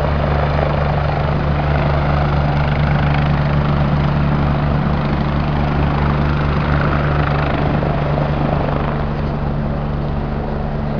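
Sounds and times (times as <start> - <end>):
helicopter rotor blades beating: 0.0 - 10.9
low engine hum: 0.0 - 10.9.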